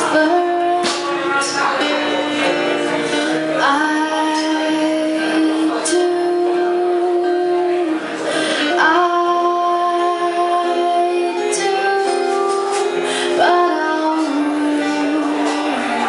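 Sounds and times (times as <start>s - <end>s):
guitar accompaniment: 0.0s - 16.0s
woman singing: 0.0s - 16.0s.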